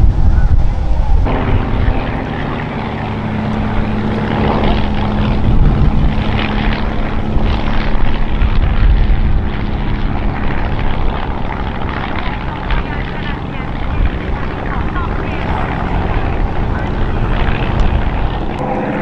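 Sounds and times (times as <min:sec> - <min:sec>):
propeller aircraft droning: 0:00.0 - 0:19.0.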